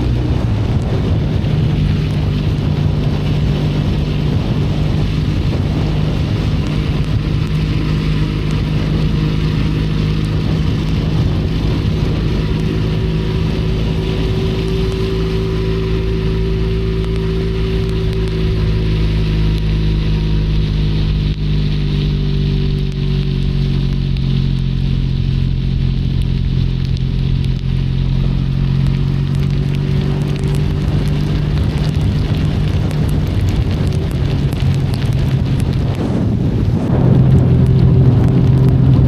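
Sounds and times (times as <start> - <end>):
motorcycle engine running: 0.0 - 39.0
rain on wet road: 0.0 - 39.0.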